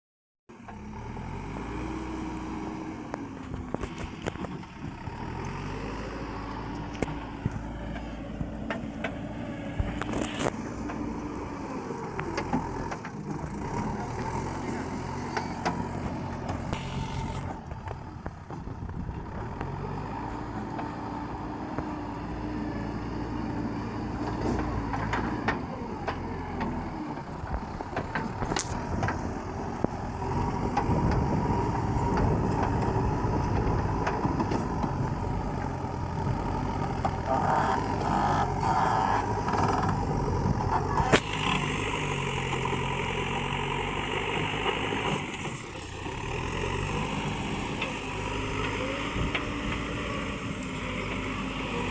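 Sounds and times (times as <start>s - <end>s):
heavy vehicle engine revving: 0.5s - 51.9s.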